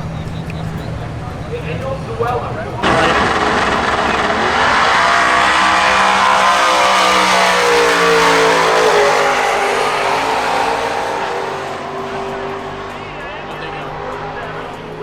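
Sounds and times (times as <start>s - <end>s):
race car at full throttle: 0.0s - 15.0s.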